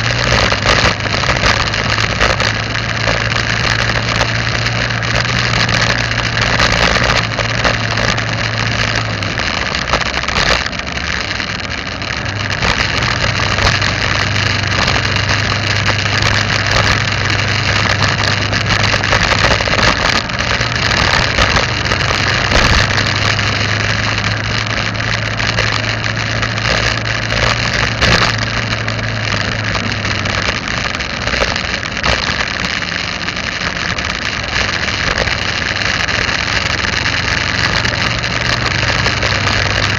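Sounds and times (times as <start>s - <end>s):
vehicle engine hum: 0.0s - 39.9s
wind and road noise: 0.0s - 39.9s.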